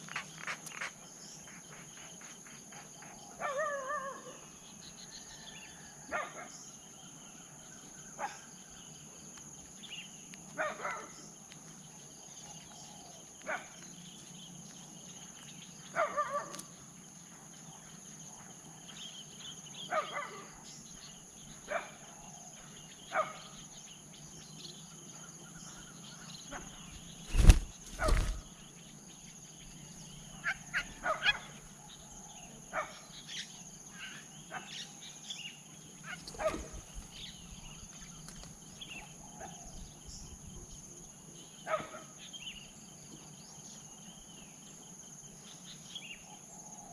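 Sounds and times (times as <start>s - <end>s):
high insect drone: 0.0s - 46.9s.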